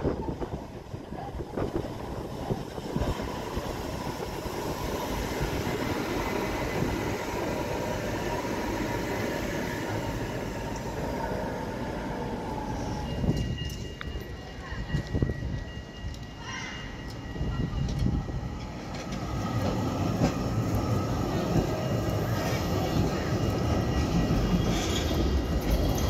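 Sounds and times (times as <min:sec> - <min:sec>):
tram rolling on rails: 0:00.0 - 0:26.0.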